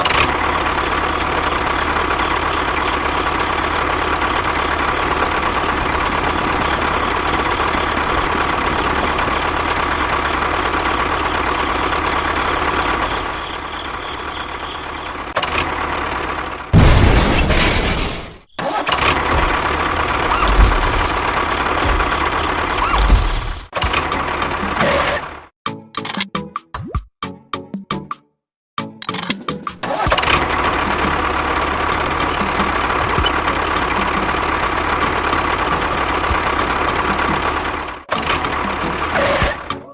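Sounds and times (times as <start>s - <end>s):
engine running: 0.0s - 17.0s, 18.8s - 25.4s, 30.1s - 39.2s.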